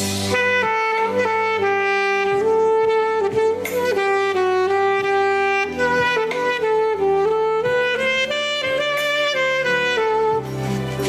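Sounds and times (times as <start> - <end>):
alto saxophone slow melody: 0.0 - 11.0.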